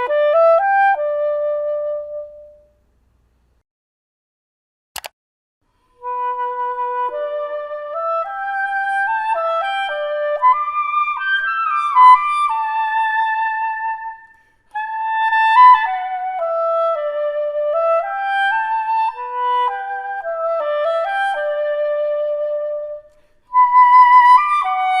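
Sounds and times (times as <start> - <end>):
soprano saxophone melody: 0.0 - 2.7, 6.0 - 14.2, 14.8 - 25.0.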